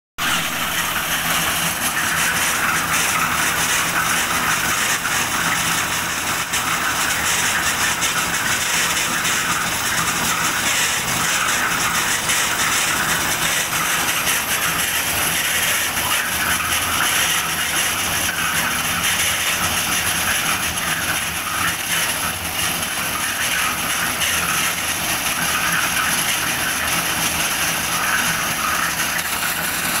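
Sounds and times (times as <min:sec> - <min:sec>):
concrete mixer hoist engine running: 0:00.2 - 0:30.0.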